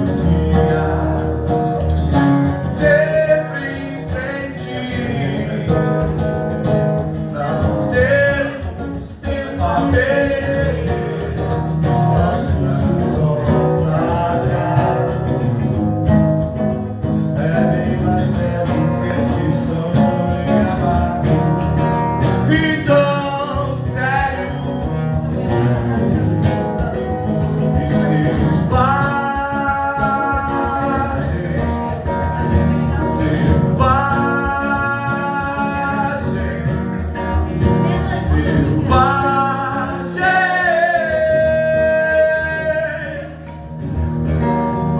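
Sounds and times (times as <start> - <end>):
live band playing with singing: 0.0 - 44.9.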